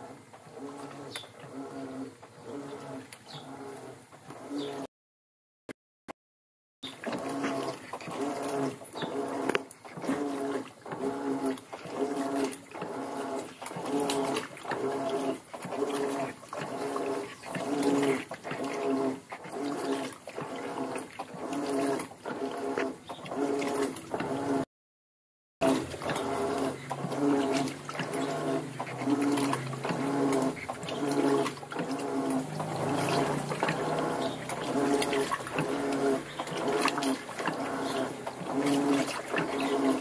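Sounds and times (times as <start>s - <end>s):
washing machine agitating: 0.0s - 4.9s, 6.8s - 24.7s, 25.6s - 40.0s
water and clothes churning: 0.0s - 4.9s, 6.8s - 24.7s, 25.6s - 40.0s.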